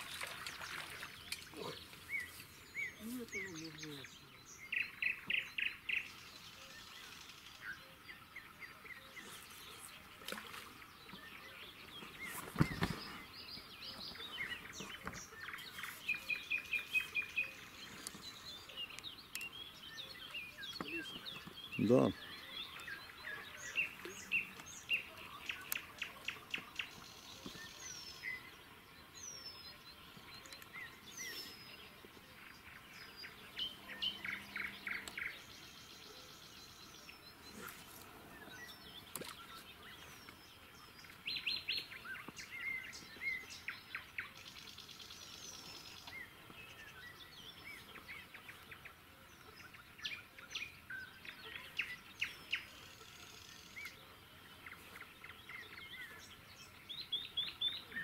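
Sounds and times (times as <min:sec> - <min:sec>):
faint outdoor hush: 0:00.0 - 0:58.0
songbirds chirping and trilling: 0:00.0 - 0:58.0.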